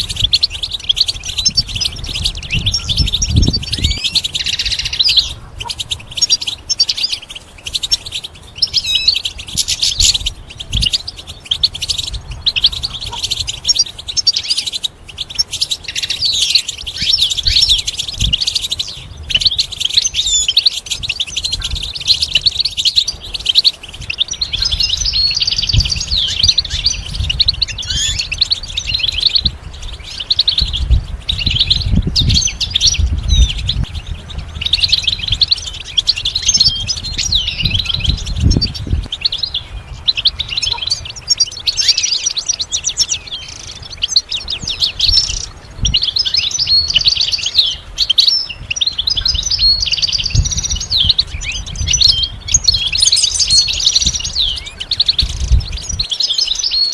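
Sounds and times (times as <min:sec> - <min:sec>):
goldfinch twittering: 0:00.0 - 0:56.9.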